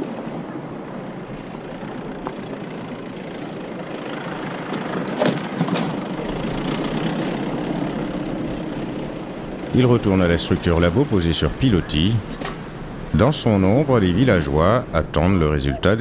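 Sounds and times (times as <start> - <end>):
truck driving on dirt: 0.0 - 16.0.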